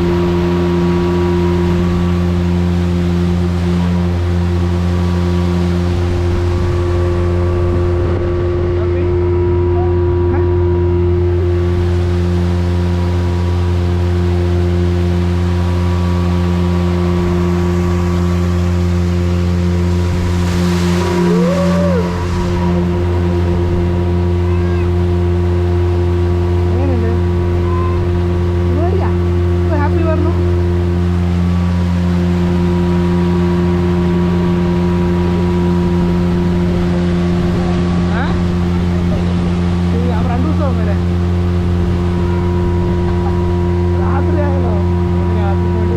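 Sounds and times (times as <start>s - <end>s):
higher gliding tone: 0.0s - 45.9s
speedboat engine droning: 0.0s - 45.9s.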